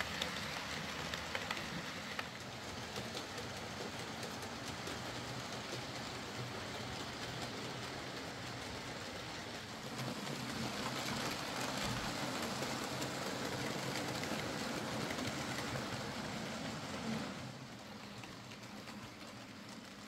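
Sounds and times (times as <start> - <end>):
another model train running: 0.0 - 20.0
model train running on track: 0.0 - 20.0.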